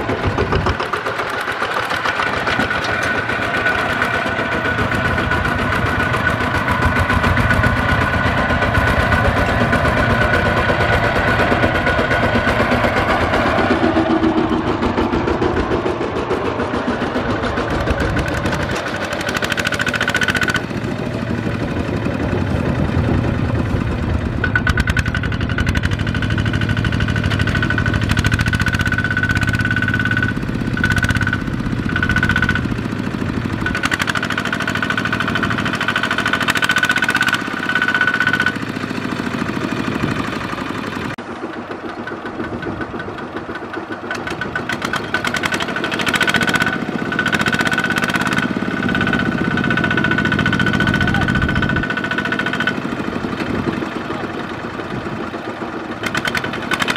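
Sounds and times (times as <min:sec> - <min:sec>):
diesel tractor engine running: 0:00.0 - 0:56.9.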